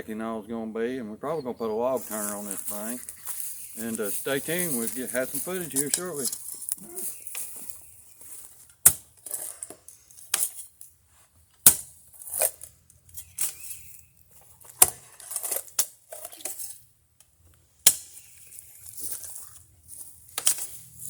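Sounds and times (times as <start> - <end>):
soil scraping: 1.8 - 16.9, 18.0 - 21.0
metal digging tool striking ground: 2.0 - 10.8, 11.6 - 16.8, 17.8 - 21.0.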